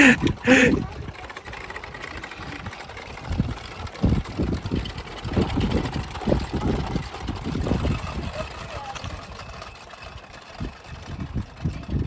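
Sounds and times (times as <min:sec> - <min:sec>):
wind buffeting microphone: 0:01.9 - 0:12.0.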